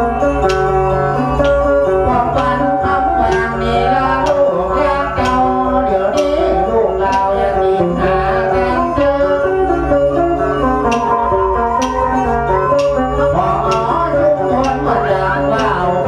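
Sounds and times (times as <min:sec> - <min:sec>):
plucked lute: 0:00.0 - 0:16.0.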